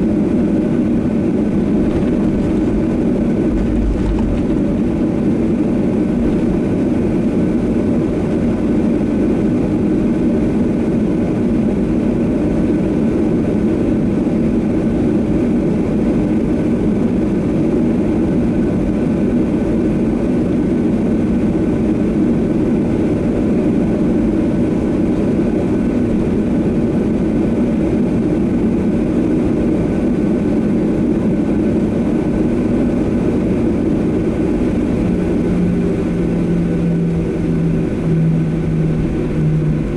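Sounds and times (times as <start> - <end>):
faint engine whine: 0.0 - 39.9
jet engines rumbling in cabin: 0.0 - 39.9.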